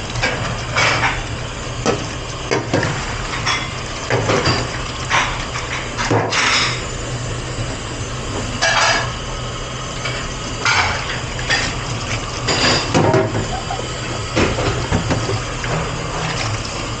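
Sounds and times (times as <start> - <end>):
low machine hum: 0.0 - 17.0
water running: 0.0 - 17.0.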